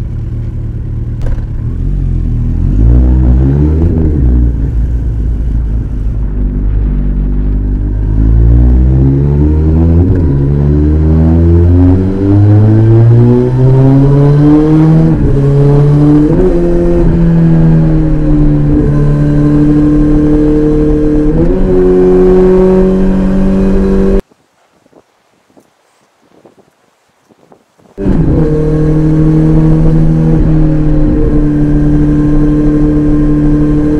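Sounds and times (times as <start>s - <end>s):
motorcycle engine accelerating: 0.0s - 24.2s, 28.0s - 33.9s.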